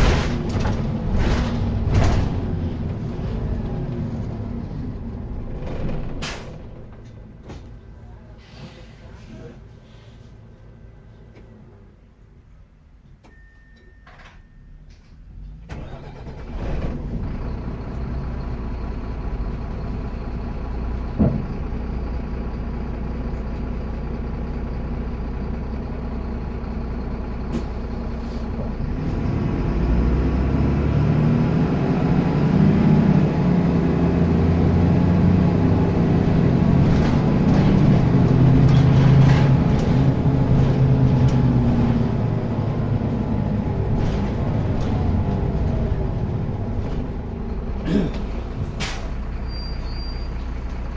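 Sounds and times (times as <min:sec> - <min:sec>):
bus diesel engine idling and revving: 0:00.0 - 0:13.2, 0:14.6 - 0:50.9.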